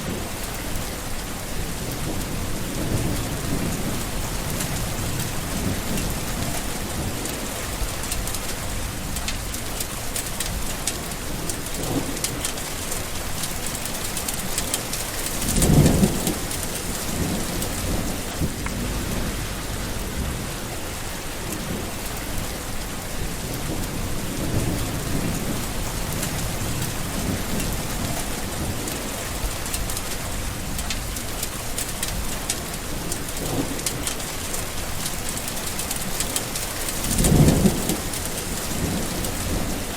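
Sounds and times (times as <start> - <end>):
rolling thunder: 0.0 - 9.8, 14.2 - 35.1, 36.0 - 39.9
heavy rain: 0.0 - 39.9.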